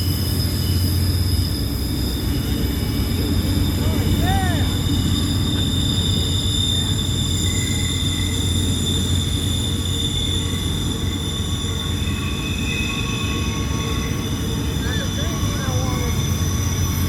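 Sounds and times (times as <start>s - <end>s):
train wheels rumbling: 0.0s - 17.0s
wheel flanges squealing: 0.0s - 17.0s.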